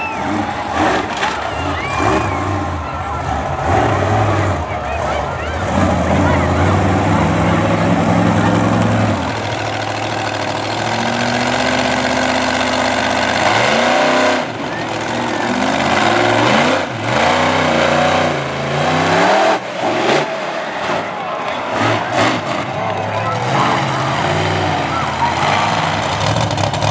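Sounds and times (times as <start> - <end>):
monster truck engine revving: 0.0 - 26.9.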